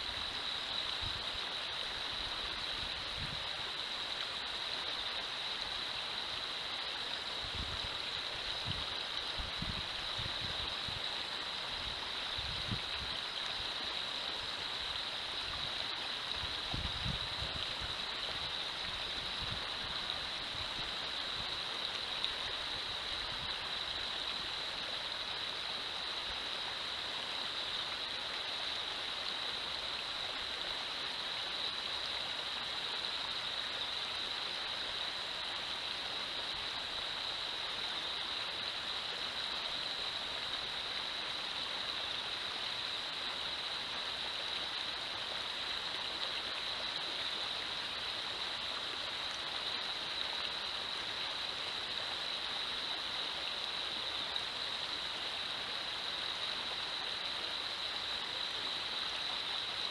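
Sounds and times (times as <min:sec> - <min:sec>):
high-pitched hiss: 0:00.0 - 0:59.9.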